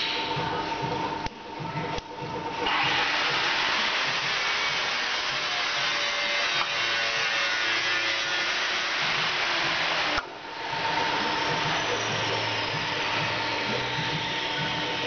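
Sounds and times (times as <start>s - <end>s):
drill motor whirring: 2.6s - 15.0s.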